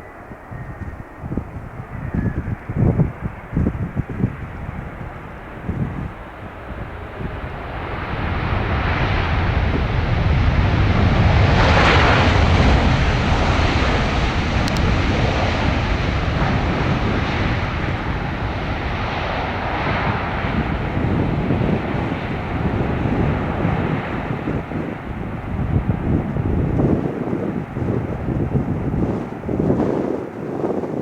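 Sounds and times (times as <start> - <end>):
jet engines: 0.0 - 31.0.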